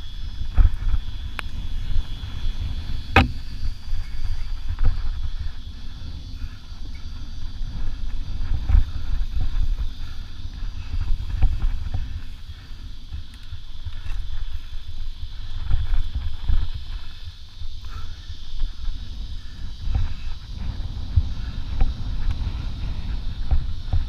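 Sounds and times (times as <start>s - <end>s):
bike rattling over bumps: 0.0s - 24.0s
wind buffeting microphone: 0.0s - 24.0s.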